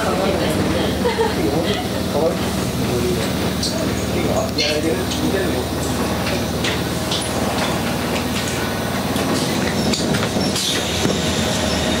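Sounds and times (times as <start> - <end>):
train car hum: 0.0 - 12.0.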